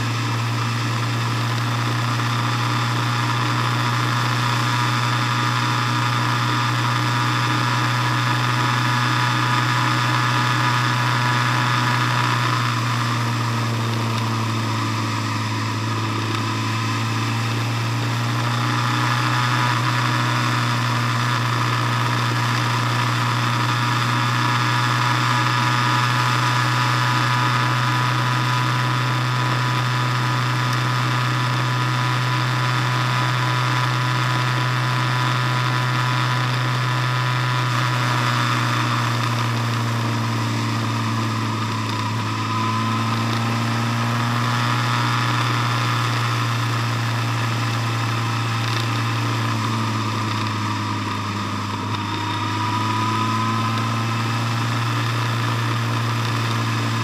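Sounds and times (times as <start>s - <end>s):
engine whine: 0.0s - 57.0s
vehicle engine droning: 0.0s - 57.0s.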